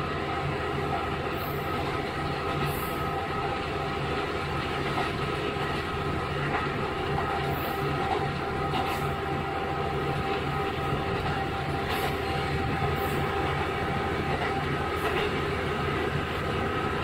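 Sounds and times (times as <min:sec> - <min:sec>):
railcar engine and wheels drone: 0:00.0 - 0:17.0.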